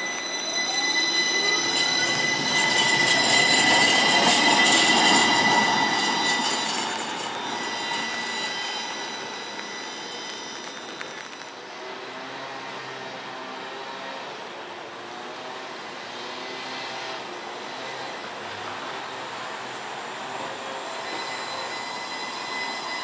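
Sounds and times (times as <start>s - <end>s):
electric streetcar whine: 0.0s - 23.0s
wheels rumbling on rails: 0.0s - 23.0s.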